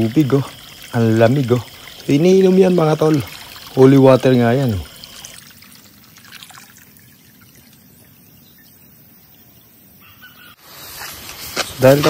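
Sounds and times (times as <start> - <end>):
water trickling and pouring: 0.0 - 9.9.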